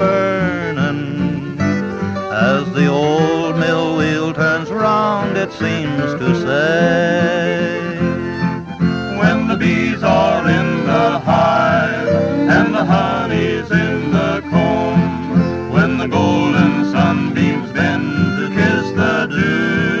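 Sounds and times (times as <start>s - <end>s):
acoustic guitars strumming: 0.0s - 20.0s
fiddle: 0.0s - 20.0s.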